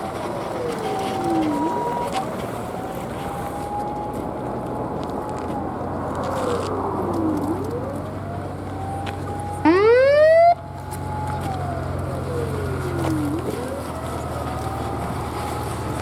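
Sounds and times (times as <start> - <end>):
engines humming low: 0.0 - 16.0
fire engine siren wailing: 0.0 - 16.0
siren blast sweeping upward: 0.0 - 16.0.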